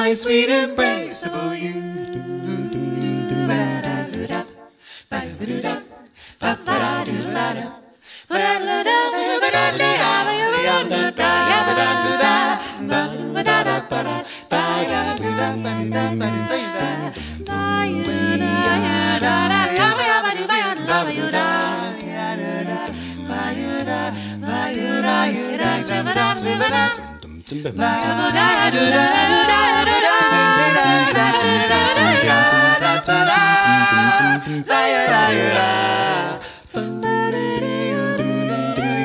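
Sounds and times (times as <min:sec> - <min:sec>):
a cappella group singing harmony: 0:00.0 - 0:39.0.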